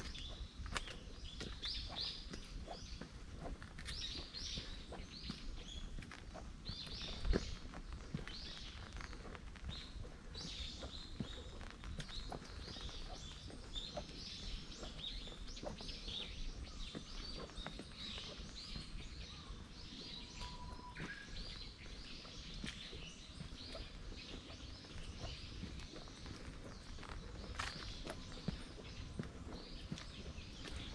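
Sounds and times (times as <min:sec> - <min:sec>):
small birds chirping: 0:00.0 - 0:30.9
soft footsteps on a path: 0:00.0 - 0:30.9.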